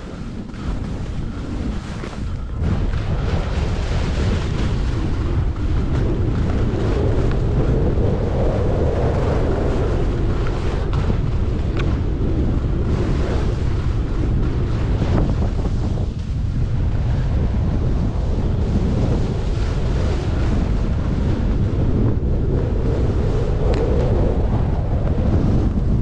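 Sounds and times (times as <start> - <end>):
skis scraping over snow: 0.0 - 26.0
wind buffeting microphone: 0.0 - 26.0.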